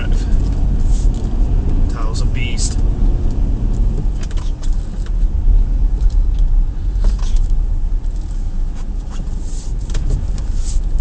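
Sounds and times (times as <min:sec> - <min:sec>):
engine and tyres rumbling in snow: 0:00.0 - 0:11.0.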